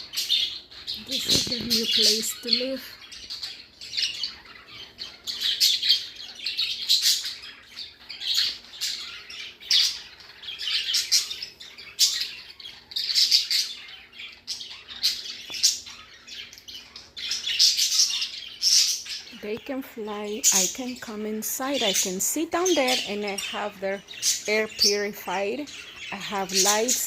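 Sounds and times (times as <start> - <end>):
budgerigars chattering and squawking: 0.0 - 27.0.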